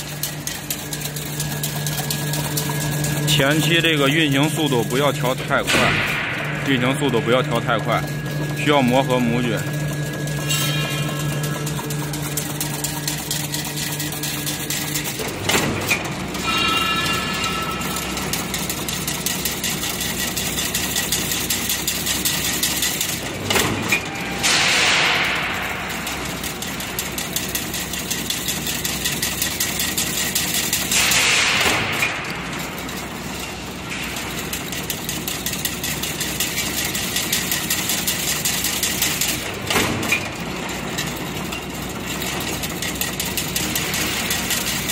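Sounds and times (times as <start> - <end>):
weaving machine clattering: 0.0 - 44.9.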